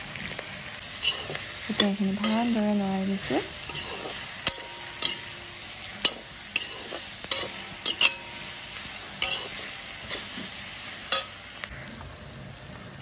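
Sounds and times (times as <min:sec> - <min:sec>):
pork sizzling in a pan: 0:00.0 - 0:13.0
metal spatula scraping a pan: 0:00.9 - 0:11.4.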